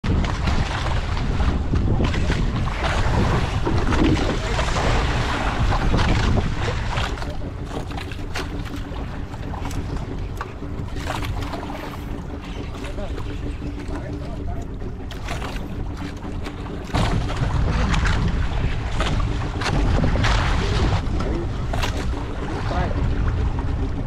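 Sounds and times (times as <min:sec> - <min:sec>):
boat motor humming: 0:00.0 - 0:24.0
water rushing aboard boat: 0:00.0 - 0:24.0
wind buffeting microphone: 0:00.0 - 0:24.0.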